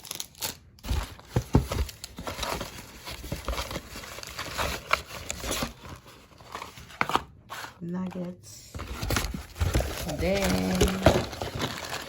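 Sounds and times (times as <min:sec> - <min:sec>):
food packaging crinkling: 0:00.0 - 0:07.8, 0:09.0 - 0:12.0.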